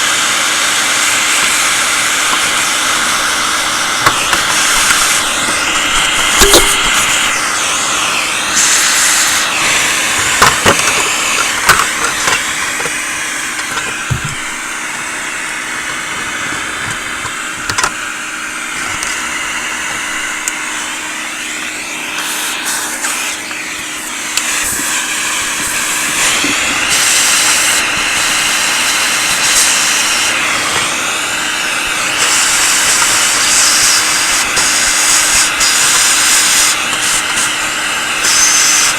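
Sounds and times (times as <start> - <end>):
small vacuum cleaner running: 0.0 - 38.9.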